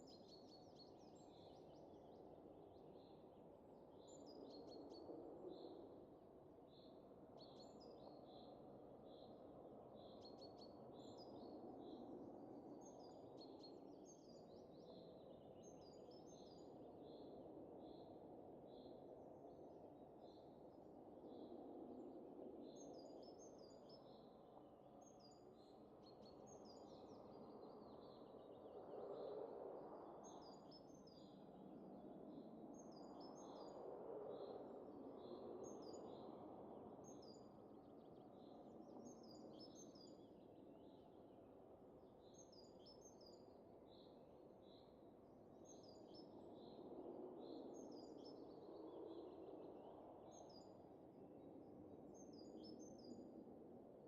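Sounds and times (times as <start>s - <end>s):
soft wind: 0.0s - 54.0s.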